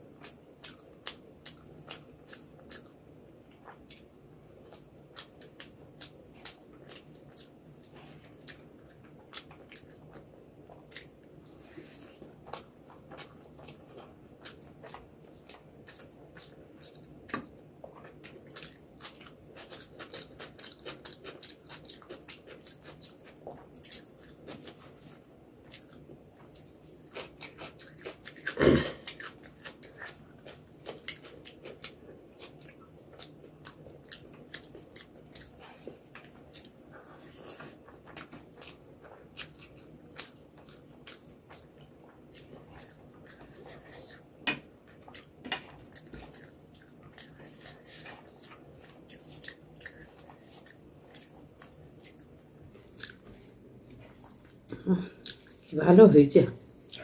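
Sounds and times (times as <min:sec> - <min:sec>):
chewing food: 0:00.0 - 0:55.8, 0:56.6 - 0:57.0.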